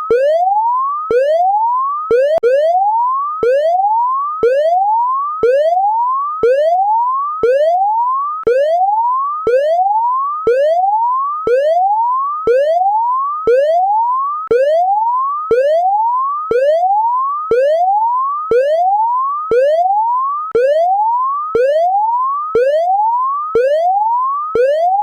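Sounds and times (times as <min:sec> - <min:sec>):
electronic whooping alarm: 0:00.0 - 0:05.8, 0:06.4 - 0:21.0, 0:21.6 - 0:25.0.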